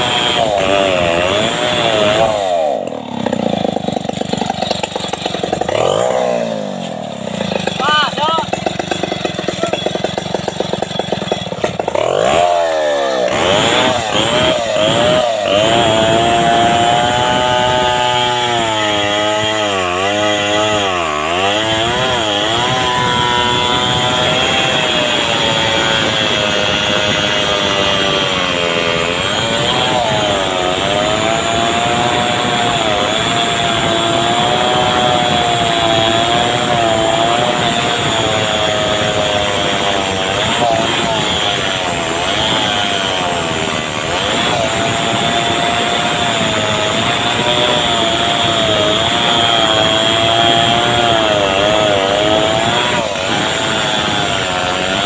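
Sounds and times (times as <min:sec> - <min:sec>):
chainsaw cutting tree trunk: 0:00.0 - 0:55.0.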